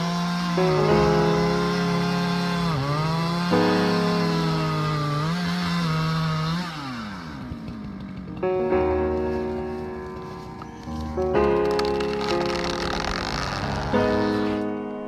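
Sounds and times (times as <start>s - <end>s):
chainsaw engine running: 0.0s - 14.8s.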